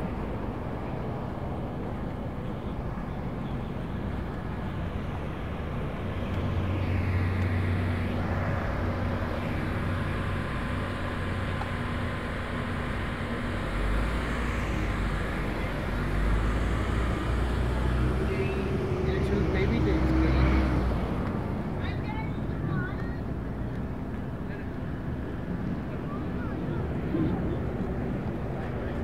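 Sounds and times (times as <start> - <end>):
outdoor background noise: 0.0 - 29.0
vehicles driving slowly: 0.0 - 29.0.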